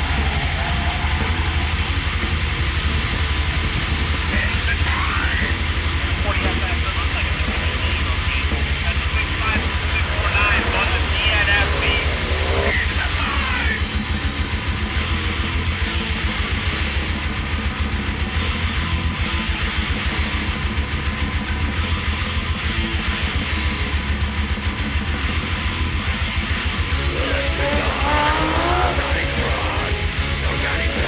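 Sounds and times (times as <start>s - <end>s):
electric guitar: 0.0s - 31.0s
fast drum beat: 0.0s - 31.0s
heavy bass line: 0.0s - 31.0s.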